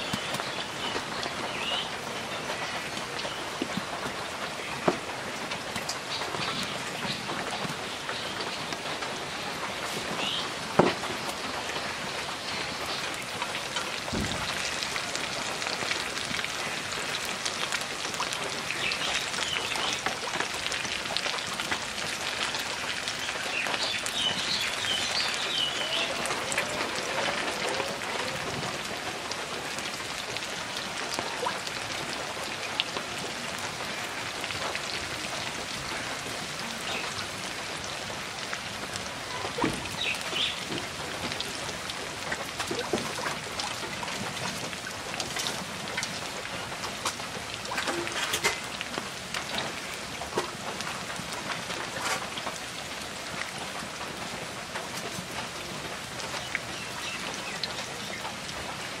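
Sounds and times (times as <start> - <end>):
food deep-frying in sizzling oil: 0.0 - 59.0.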